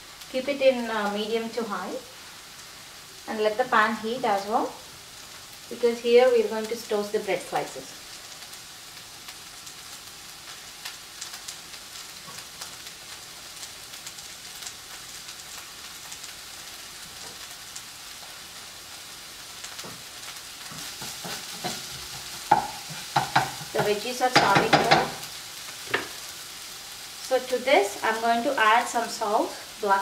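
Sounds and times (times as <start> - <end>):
vegetables sizzling in a frying pan: 0.0 - 30.0.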